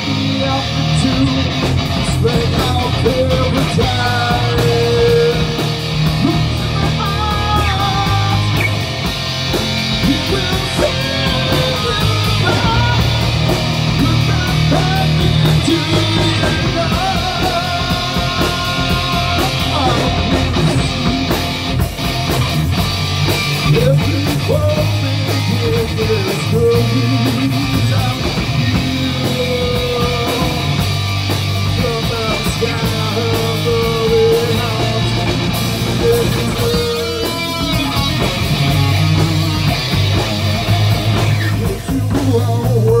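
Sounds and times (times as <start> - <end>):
drum kit: 0.0 - 43.0
electric guitar: 0.0 - 43.0.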